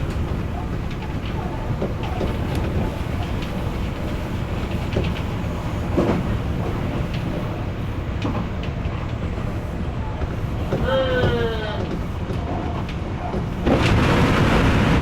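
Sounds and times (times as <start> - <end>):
electric train rumbling: 0.0 - 15.0
wheels clicking over rail joints: 0.0 - 15.0.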